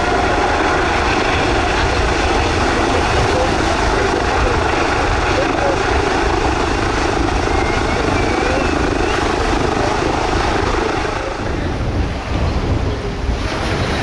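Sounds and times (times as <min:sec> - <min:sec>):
faint whine: 0:00.0 - 0:13.2
propeller aircraft engine drone: 0:00.0 - 0:14.0.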